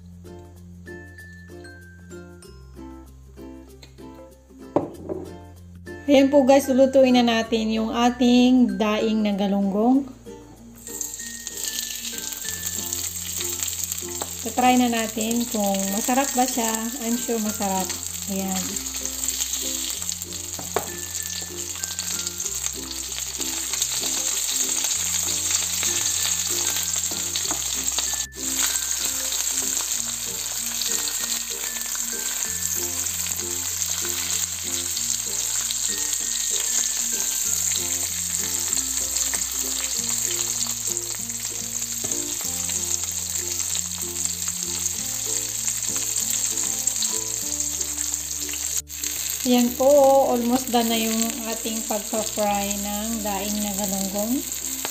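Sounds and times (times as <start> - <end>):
fish frying in oil: 10.8 - 54.9.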